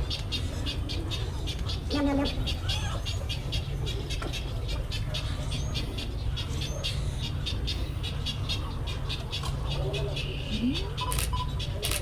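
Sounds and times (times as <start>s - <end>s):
birds chirping and clicking: 0.0s - 12.0s.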